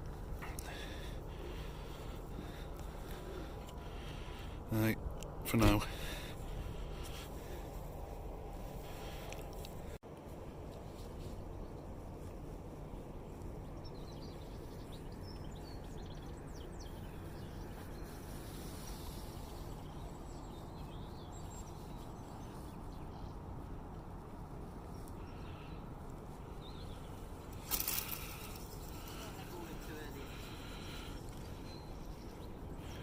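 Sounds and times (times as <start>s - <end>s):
harbourside background rumble: 0.0s - 33.0s.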